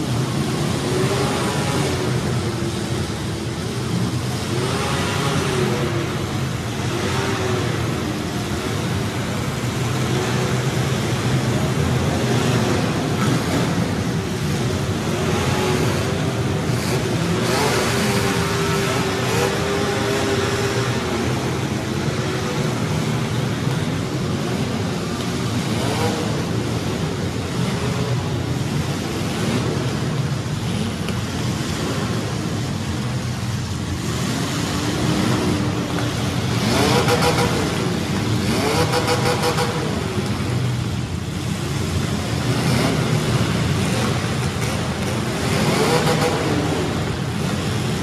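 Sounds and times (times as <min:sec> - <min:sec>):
car engines rumbling: 0:00.0 - 0:48.0
engines revving: 0:00.0 - 0:48.0.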